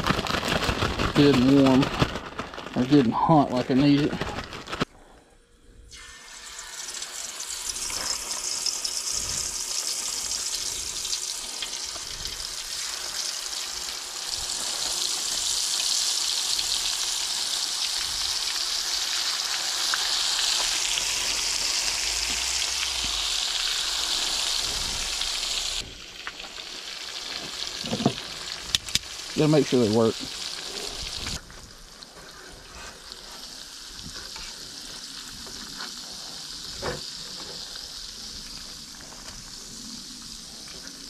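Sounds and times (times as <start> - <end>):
fish sizzling in hot oil: 5.9 - 41.0.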